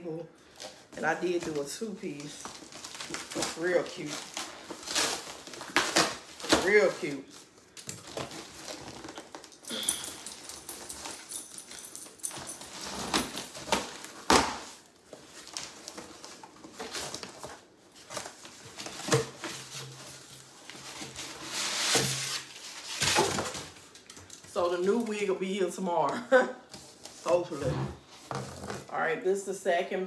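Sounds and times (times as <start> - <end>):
cardboard and packing rustling: 0.4 - 25.3, 26.6 - 29.0.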